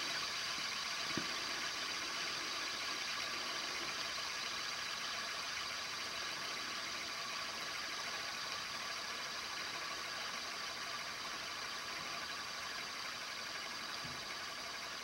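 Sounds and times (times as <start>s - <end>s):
fishing reel spool whirring: 0.0s - 15.0s.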